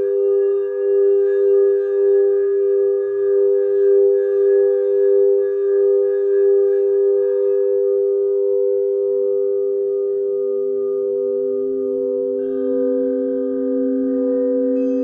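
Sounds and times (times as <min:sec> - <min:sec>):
singing bowls ringing: 0:00.0 - 0:15.0.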